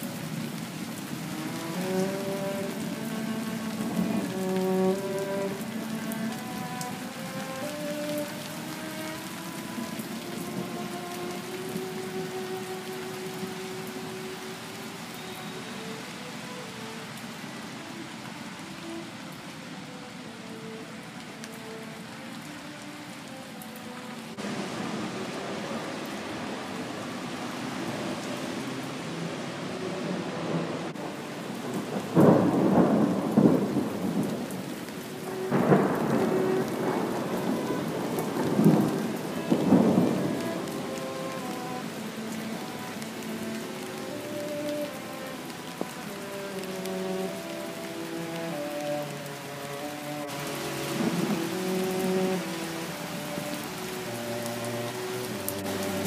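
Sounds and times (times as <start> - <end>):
rain splashing on concrete: 0.0 - 56.0.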